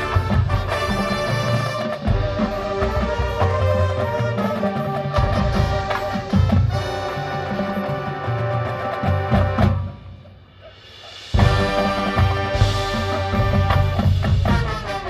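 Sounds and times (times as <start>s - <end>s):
drums: 0.0s - 15.0s
marching band brass chords: 0.0s - 15.0s.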